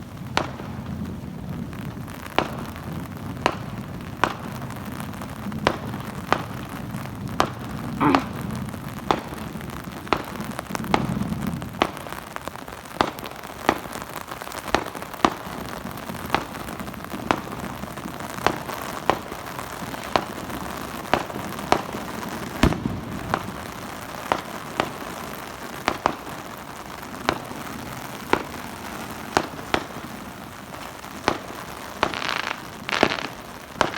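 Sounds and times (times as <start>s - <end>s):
crackling hiss: 0.0s - 33.9s
fireworks bangs: 0.2s - 33.9s.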